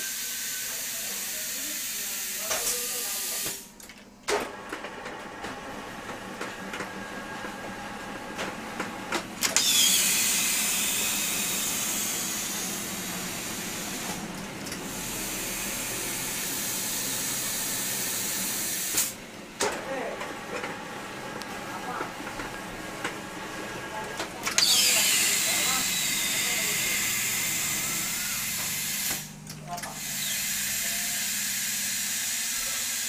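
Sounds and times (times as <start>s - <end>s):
machine running noise: 0.0s - 33.0s.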